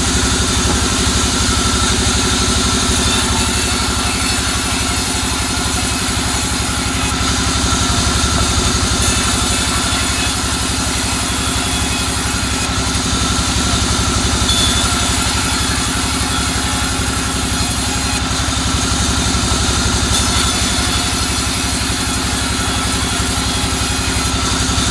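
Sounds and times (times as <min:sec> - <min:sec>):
bandsaw cutting wood: 0:00.0 - 0:24.9.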